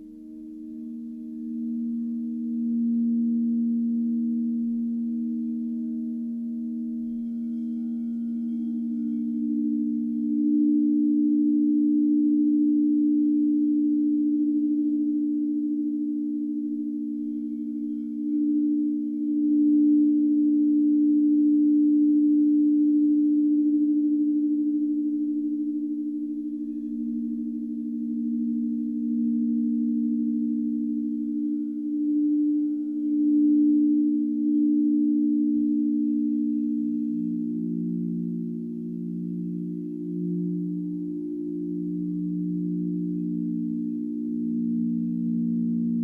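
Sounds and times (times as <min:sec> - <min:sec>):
crystal singing bowls ringing: 0:00.0 - 0:46.0.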